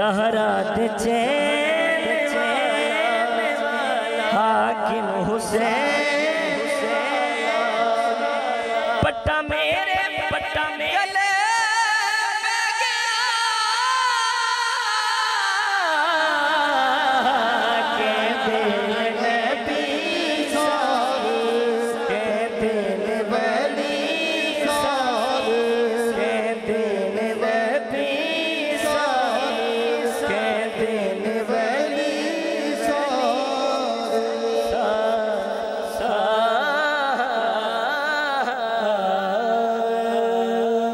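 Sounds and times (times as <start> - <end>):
man singing devotional verse: 0.0 - 40.9.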